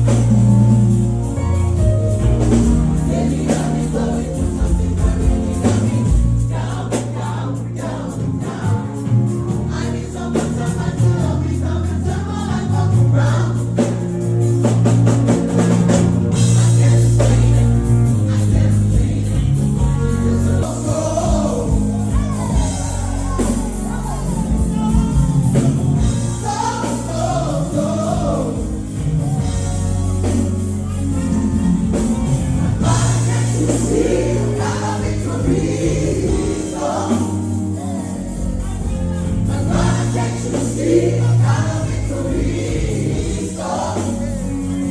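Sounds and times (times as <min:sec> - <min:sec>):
gospel choir singing: 0:00.0 - 0:44.9
steady bass line: 0:00.0 - 0:44.9.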